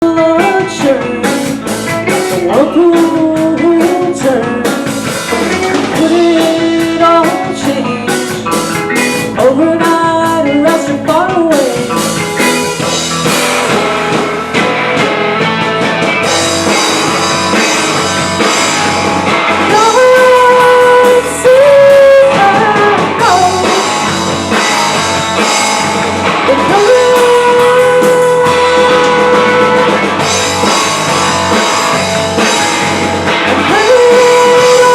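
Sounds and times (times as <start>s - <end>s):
person singing: 0.0s - 12.6s, 16.6s - 34.9s
drum kit: 0.0s - 34.9s
electric guitar: 0.0s - 34.9s.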